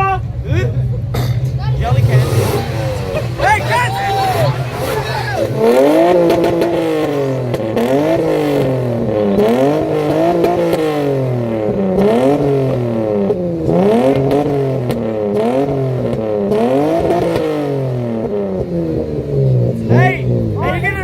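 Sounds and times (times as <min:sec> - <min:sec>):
car engine revving in blips: 0:01.0 - 0:21.0.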